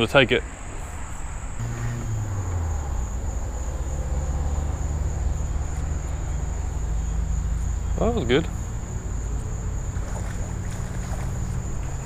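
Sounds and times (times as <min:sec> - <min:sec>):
vehicle engine rumble: 0:00.0 - 0:12.0
high-pitched insect trill: 0:00.2 - 0:12.0.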